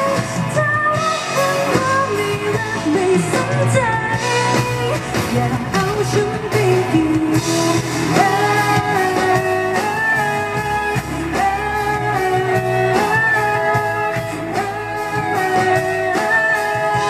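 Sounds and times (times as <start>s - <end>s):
electric guitar melody: 0.0s - 17.0s
live pop band playing: 0.0s - 17.0s.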